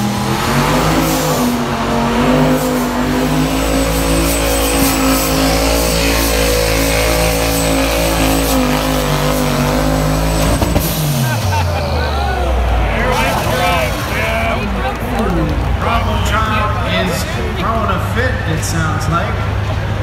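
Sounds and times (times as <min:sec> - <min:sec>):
diesel truck engine at full throttle: 0:00.0 - 0:20.0.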